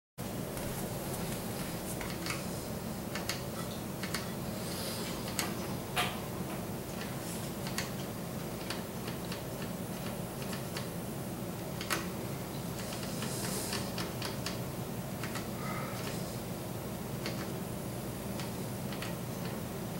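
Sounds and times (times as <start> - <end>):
steady low hum: 0.2 - 19.9.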